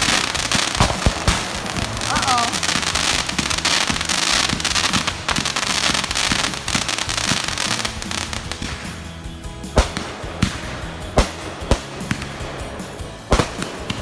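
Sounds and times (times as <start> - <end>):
sharp firework bang: 0.0 - 9.0, 9.8 - 12.6
fireworks crackling: 0.0 - 14.0.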